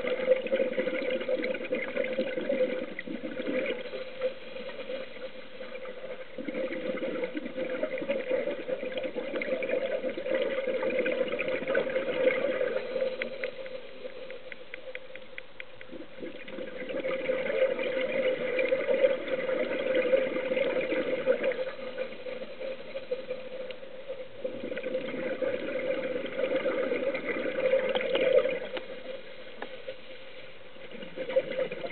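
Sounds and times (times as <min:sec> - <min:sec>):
exhaled bubbles underwater: 0:00.0 - 0:15.2, 0:15.8 - 0:31.9.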